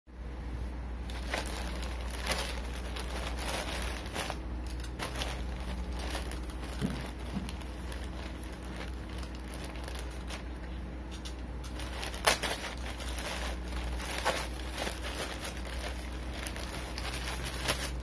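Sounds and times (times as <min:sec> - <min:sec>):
steady low hum: 0:00.1 - 0:18.0
plastic bag crinkling: 0:01.0 - 0:18.0.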